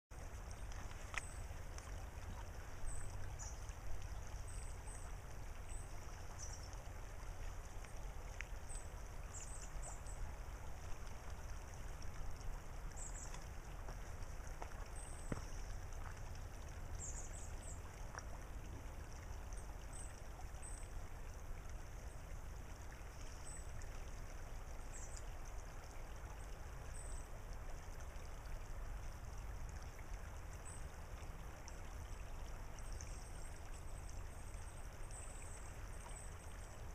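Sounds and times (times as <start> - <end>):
creek running over pebbles: 0.1 - 36.9
low steady rumble: 0.1 - 36.9.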